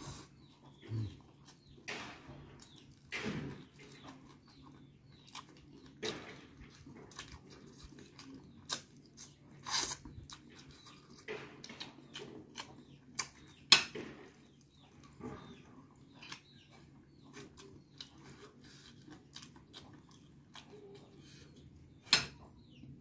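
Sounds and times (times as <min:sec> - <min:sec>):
wet chewing: 0:02.4 - 0:22.0.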